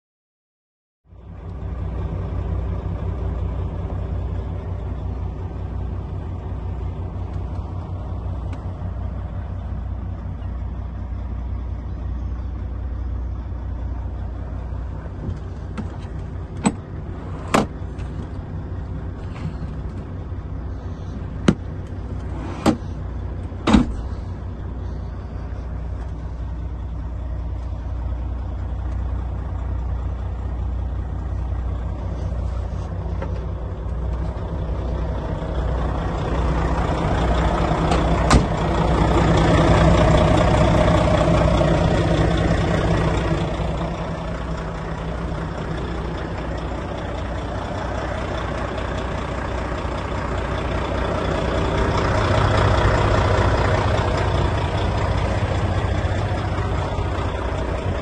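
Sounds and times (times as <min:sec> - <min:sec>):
diesel truck engine idling: 0:01.1 - 0:58.0.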